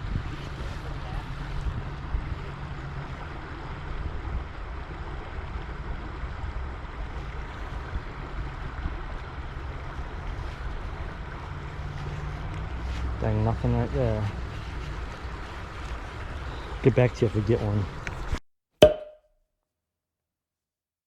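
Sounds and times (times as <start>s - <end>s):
wind rumble on microphone: 0.0s - 18.4s
creek water rushing: 0.4s - 18.0s.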